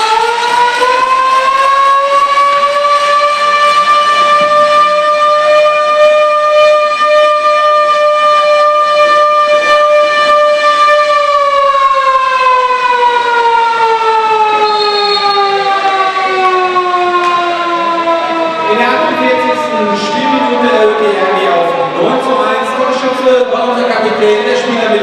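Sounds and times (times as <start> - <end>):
siren wailing: 0.0 - 23.8.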